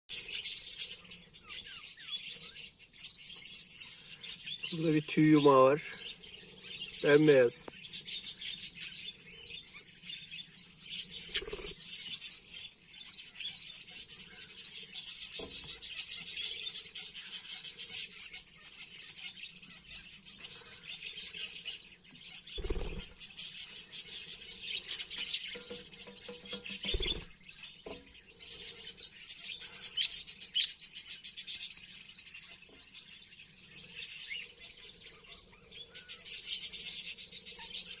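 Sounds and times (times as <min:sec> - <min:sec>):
birds chirping chatter: 0:00.1 - 0:38.0.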